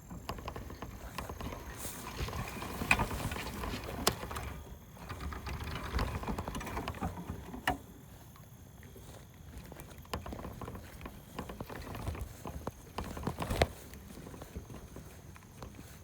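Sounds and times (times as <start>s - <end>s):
irregular rustling: 0.0s - 16.0s.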